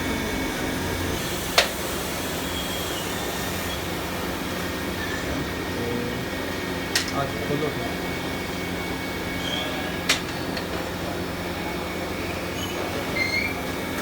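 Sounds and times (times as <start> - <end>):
factory machinery drone: 0.0 - 14.0.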